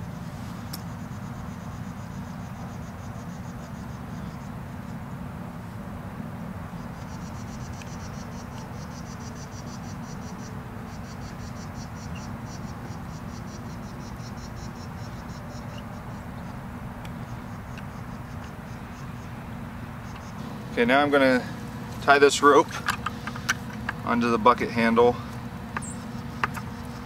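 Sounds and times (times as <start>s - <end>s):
crickets chirping: 0.0s - 5.7s, 6.4s - 27.0s.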